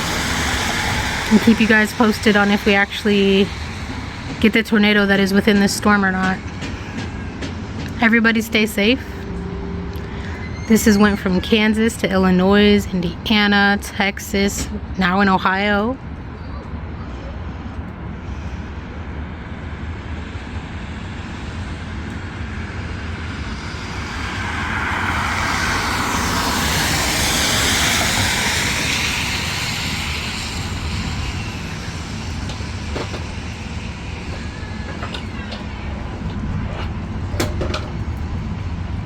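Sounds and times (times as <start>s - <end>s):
aircraft passing overhead: 0.0s - 14.4s, 15.9s - 39.0s
low outdoor rumble: 0.0s - 39.0s.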